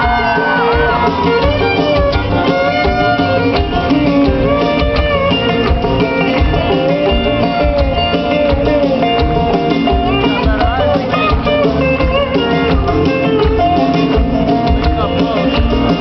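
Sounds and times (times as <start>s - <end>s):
fiddle: 0.0s - 16.0s
guitar: 0.0s - 16.0s
steady drum beat: 0.0s - 16.0s.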